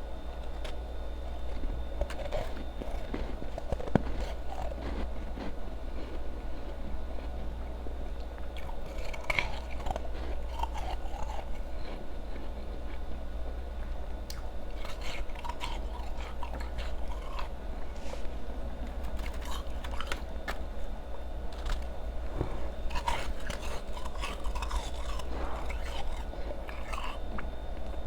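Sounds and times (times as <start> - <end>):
chewing and crunching ice: 0.0 - 28.0.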